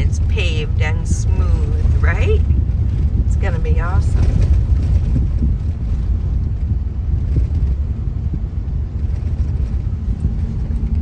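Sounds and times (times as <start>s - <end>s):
car driving on rough road: 0.0s - 11.0s.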